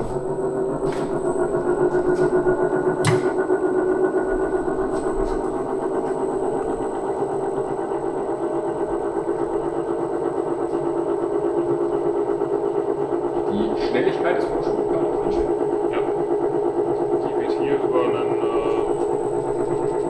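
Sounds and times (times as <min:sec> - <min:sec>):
boring machine humming: 0:00.0 - 0:20.0.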